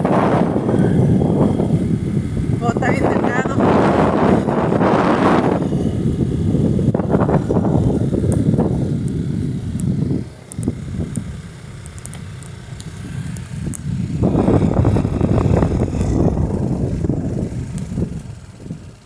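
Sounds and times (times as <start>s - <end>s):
motorcycle riding: 0.0s - 19.0s
wind rumbling on microphone: 0.0s - 19.0s.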